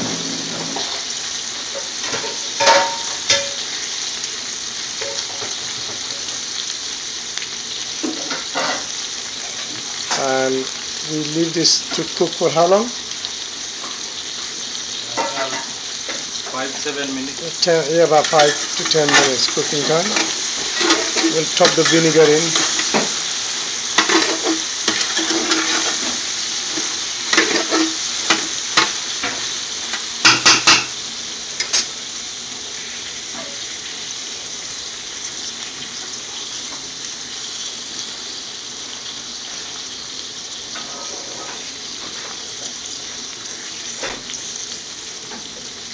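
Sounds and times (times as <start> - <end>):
chillies sizzling in a pot: 0.0 - 45.9.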